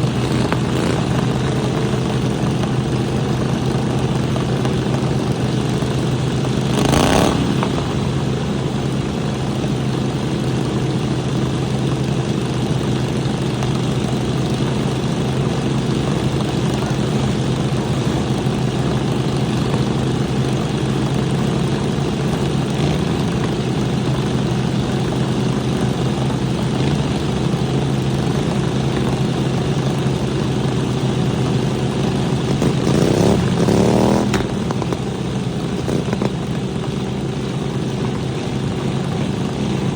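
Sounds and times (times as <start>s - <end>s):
lawnmower engines running: 0.0s - 39.9s.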